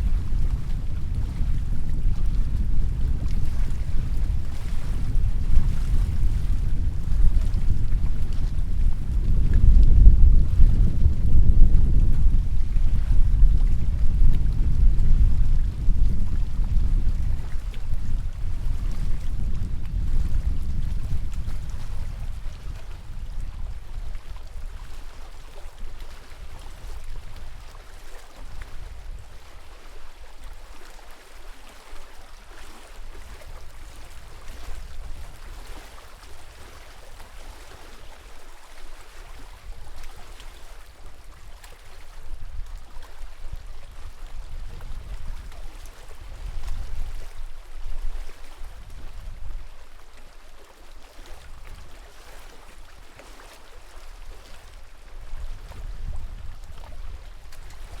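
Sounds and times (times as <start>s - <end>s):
water lapping and splashing: 0.0s - 58.0s
wind rumbling on microphone: 0.0s - 58.0s.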